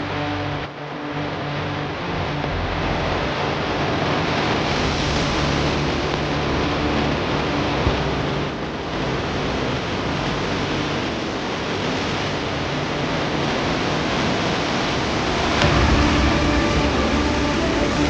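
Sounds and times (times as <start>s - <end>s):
river water roaring: 0.0s - 18.0s.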